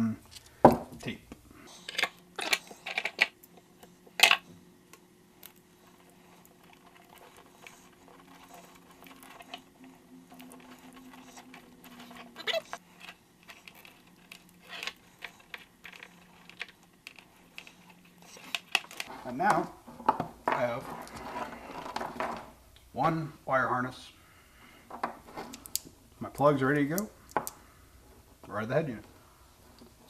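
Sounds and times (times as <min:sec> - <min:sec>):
steady low hum: 0:00.0 - 0:30.0
hands rustling cable bundle: 0:00.2 - 0:22.7, 0:24.8 - 0:30.0.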